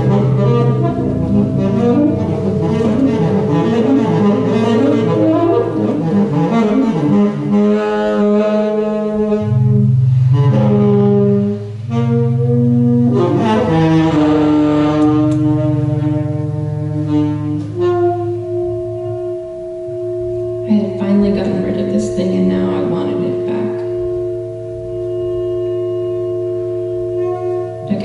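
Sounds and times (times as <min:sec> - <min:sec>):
low drone: 0:00.0 - 0:28.0
sustained pitched tones: 0:00.0 - 0:28.0.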